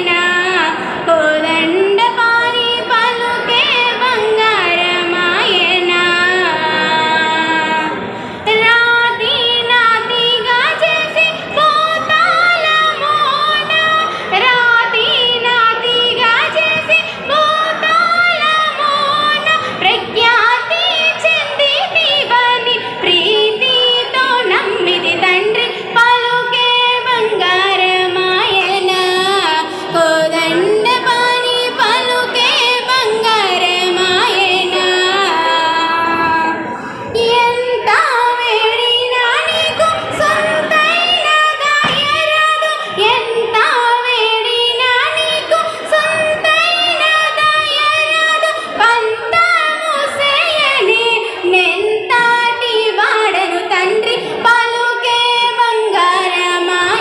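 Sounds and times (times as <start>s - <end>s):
girl singing into microphone: 0.0s - 57.0s.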